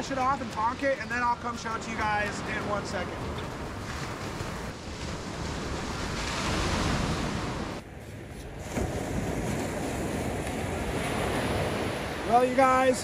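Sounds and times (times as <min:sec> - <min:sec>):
ocean surf breaking on beach: 0:01.6 - 0:13.0.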